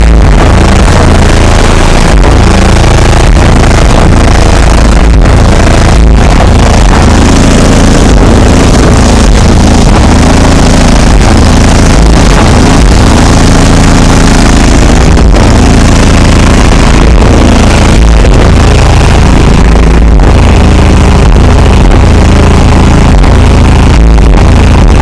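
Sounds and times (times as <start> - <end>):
bass-heavy music from subwoofer: 0.0 - 25.0.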